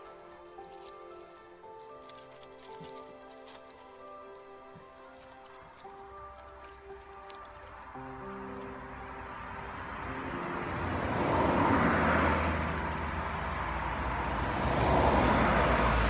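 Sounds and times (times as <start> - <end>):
background music: 0.0 - 16.0
passing motor traffic: 0.0 - 16.0.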